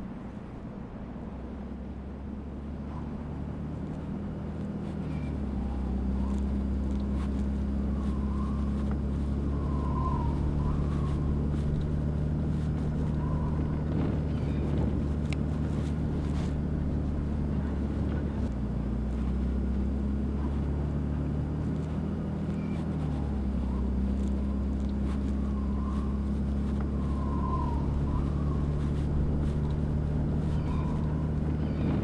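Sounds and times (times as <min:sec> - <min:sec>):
pickup engine and road hum: 0:00.0 - 0:32.0.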